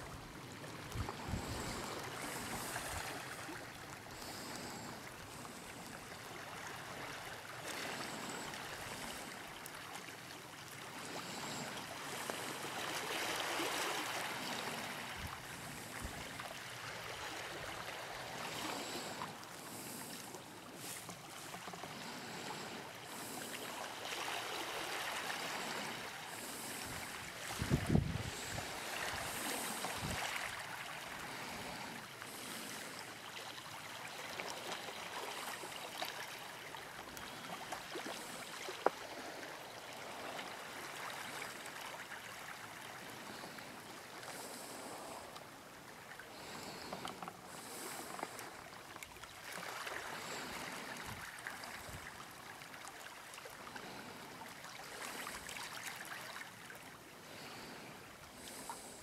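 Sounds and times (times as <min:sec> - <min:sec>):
small waves through slush ice: 0:00.0 - 0:59.0.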